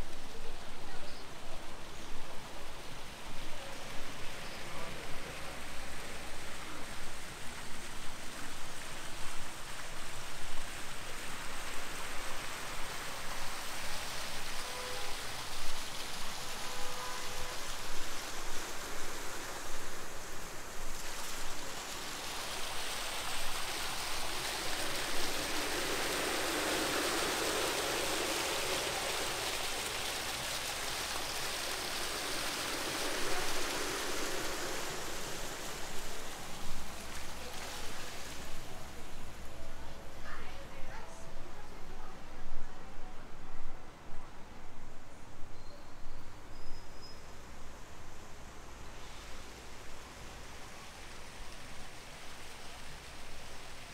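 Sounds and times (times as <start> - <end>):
rushing water: 0.0 - 45.5, 46.2 - 53.9.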